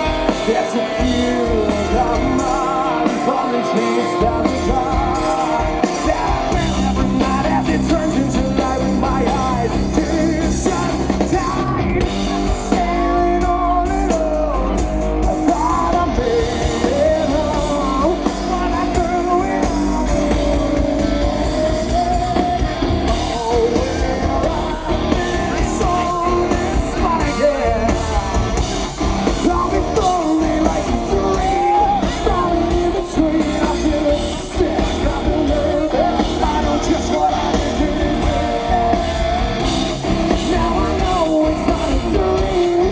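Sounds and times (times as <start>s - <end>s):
man singing lead vocal: 0.0s - 42.9s
rock band playing live: 0.0s - 42.9s.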